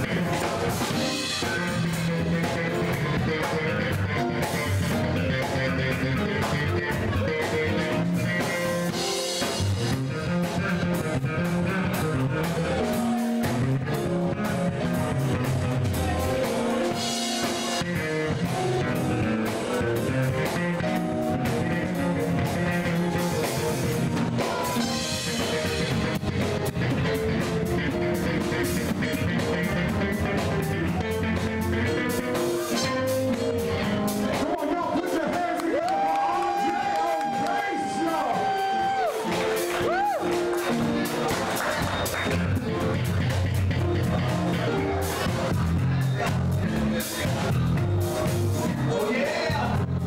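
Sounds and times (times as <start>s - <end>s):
bass guitar solo: 0.0s - 50.0s
drum kit groove: 0.0s - 50.0s.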